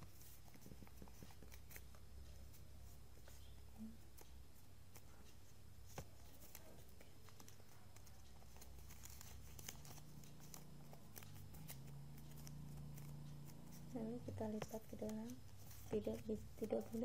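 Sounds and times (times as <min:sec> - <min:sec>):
paper crinkling and rustling: 0:00.0 - 0:17.0.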